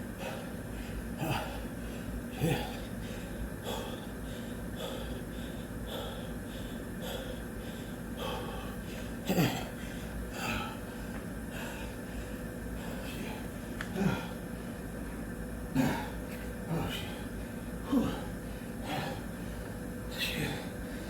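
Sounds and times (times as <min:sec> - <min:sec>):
man breathing hard and fast: 0:00.0 - 0:21.0.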